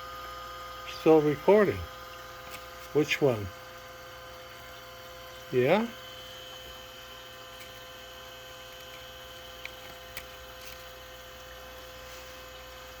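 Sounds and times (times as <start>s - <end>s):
chiller fan and pump humming: 0.0s - 13.0s.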